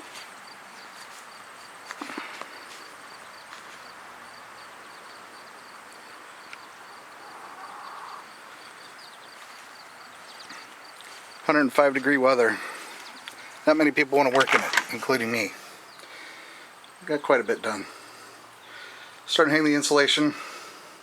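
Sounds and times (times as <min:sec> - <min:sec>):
insect chirping: 0:00.2 - 0:11.5, 0:12.7 - 0:19.3.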